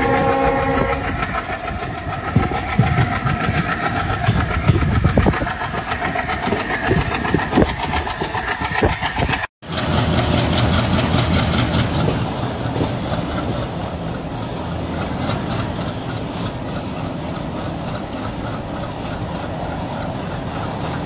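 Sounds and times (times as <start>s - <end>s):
diesel locomotive engine chugging: 0.0s - 21.0s.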